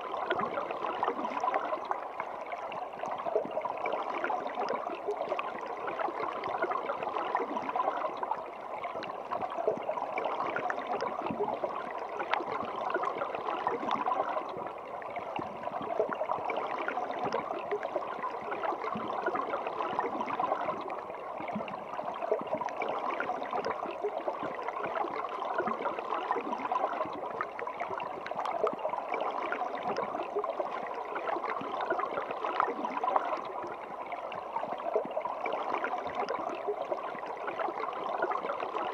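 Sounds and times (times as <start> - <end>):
water flowing and gurgling: 0.0 - 38.9.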